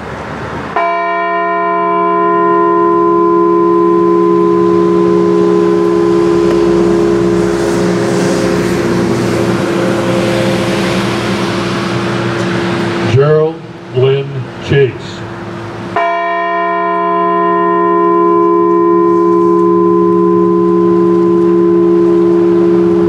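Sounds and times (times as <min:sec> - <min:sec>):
deep bell toll: 0:00.8 - 0:13.2, 0:16.0 - 0:23.0.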